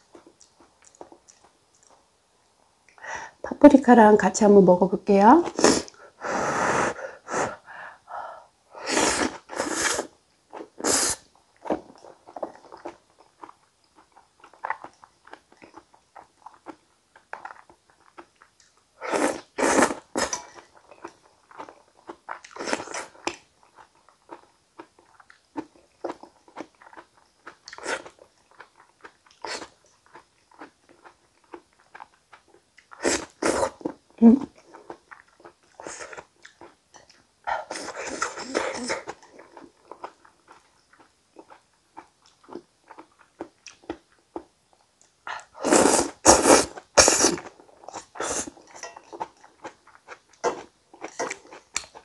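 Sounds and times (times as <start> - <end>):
person chewing food: 0.0 - 2.1, 9.2 - 52.0.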